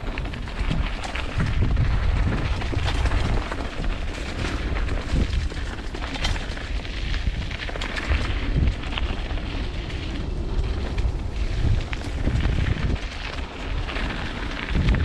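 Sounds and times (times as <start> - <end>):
bike clattering over rocks: 0.0 - 15.0
wind rumble on microphone: 0.0 - 15.0.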